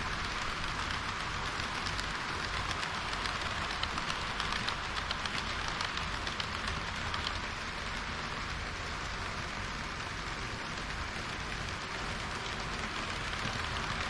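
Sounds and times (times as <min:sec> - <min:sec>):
model train wheels on rail: 0:00.0 - 0:14.0
small irregular clicks: 0:00.0 - 0:14.0.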